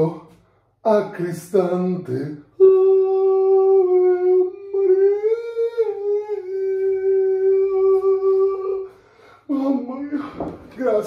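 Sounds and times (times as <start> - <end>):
man singing a high held note: 0.0 - 11.0.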